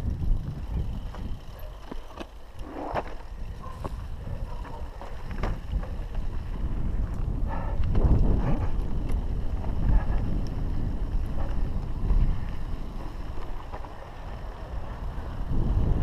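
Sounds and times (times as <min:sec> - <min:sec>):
bike clicks and knocks: 0:00.0 - 0:16.0
bike tyres rumbling on dirt: 0:00.0 - 0:16.0
wind buffeting microphone: 0:00.0 - 0:16.0.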